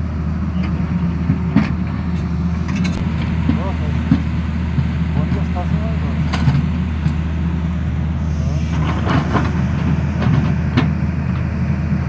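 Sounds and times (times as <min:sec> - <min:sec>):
excavator diesel engine: 0:00.0 - 0:12.0.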